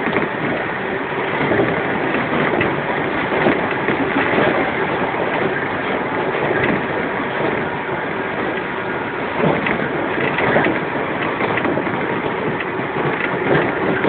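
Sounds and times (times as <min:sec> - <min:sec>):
electric train running noise: 0:00.0 - 0:14.0.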